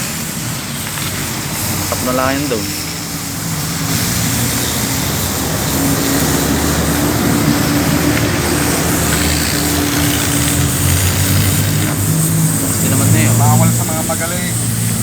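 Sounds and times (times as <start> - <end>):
arc welder electrical hum: 0.0 - 15.0
welding crackling hiss: 0.0 - 15.0.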